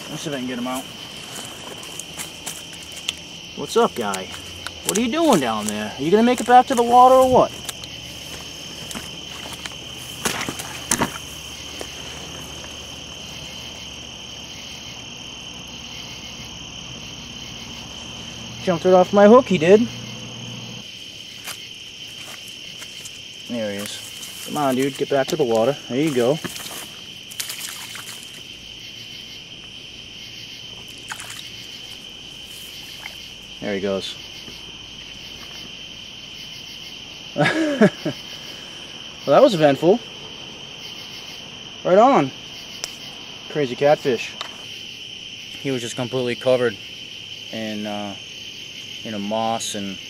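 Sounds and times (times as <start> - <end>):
crickets chirring: 0.0 - 50.0
night insects trilling: 0.0 - 50.0.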